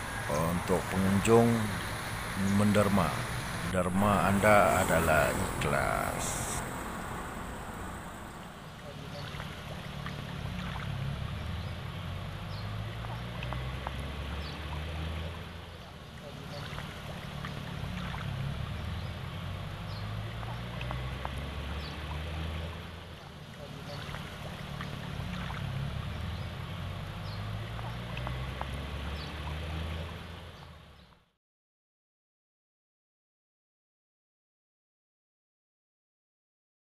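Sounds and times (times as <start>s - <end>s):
low motor hum: 0.0s - 31.0s
water sloshing and trickling: 0.0s - 31.1s.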